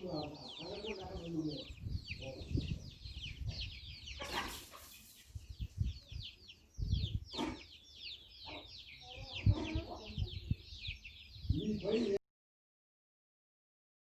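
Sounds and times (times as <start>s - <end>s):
chickens clucking: 0.0s - 12.2s.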